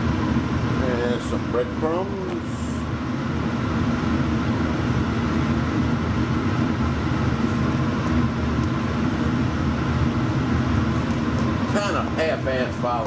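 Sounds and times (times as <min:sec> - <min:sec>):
kitchen appliance humming: 0:00.0 - 0:13.0.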